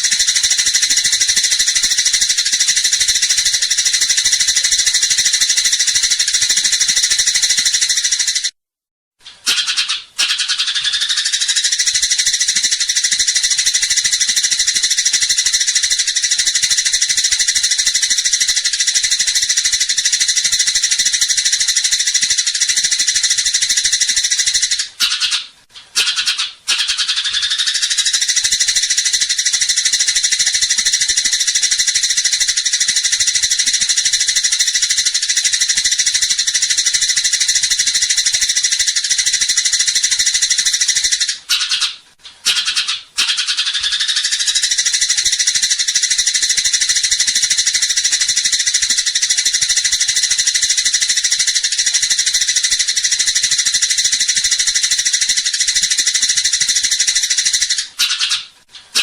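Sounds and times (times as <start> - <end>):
sparrows chattering: 0.0 - 8.5, 9.3 - 59.0.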